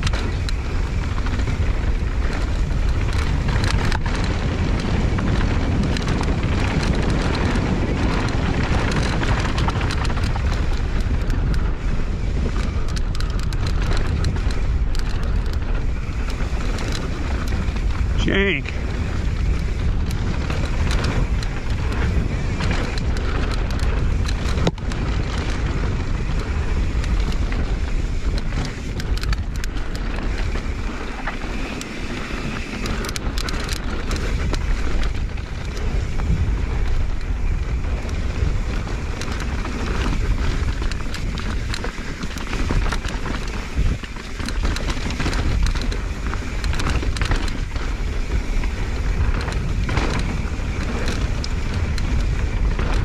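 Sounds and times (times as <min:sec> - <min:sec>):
bike rattling over bumps: 0:00.0 - 0:53.0
bike tyres rolling over dirt: 0:00.0 - 0:53.0
wind on microphone: 0:00.0 - 0:53.0.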